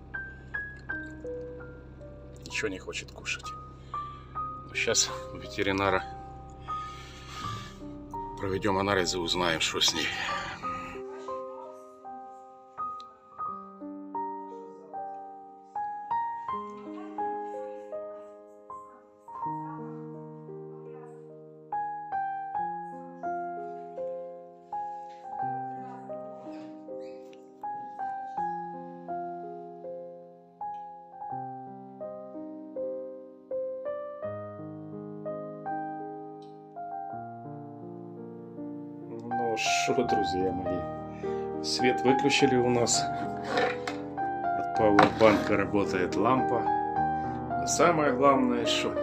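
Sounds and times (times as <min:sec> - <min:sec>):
slow solo piano: 0:00.0 - 0:49.0.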